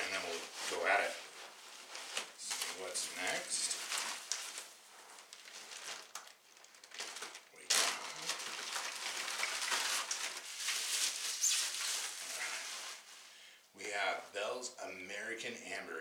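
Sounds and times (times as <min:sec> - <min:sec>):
plastic wrap crinkling: 0:00.0 - 0:13.3.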